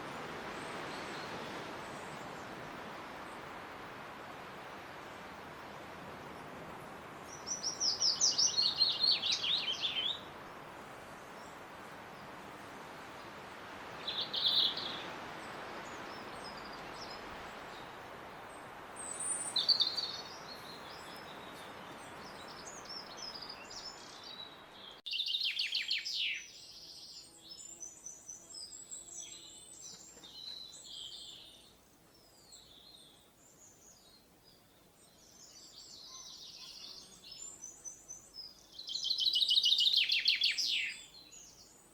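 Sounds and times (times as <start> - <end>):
background hiss: 0.0 - 41.9
songbirds chirping: 0.0 - 41.9.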